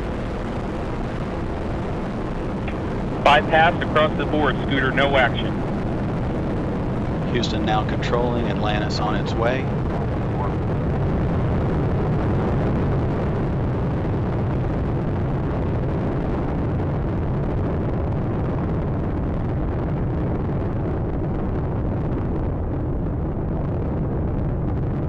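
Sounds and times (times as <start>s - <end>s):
rocket engines rumbling: 0.0s - 25.0s.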